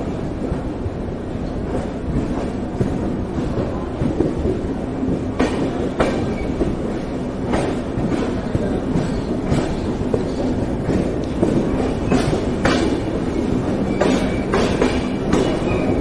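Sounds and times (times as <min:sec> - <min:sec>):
train wheels rolling: 0:00.0 - 0:16.0.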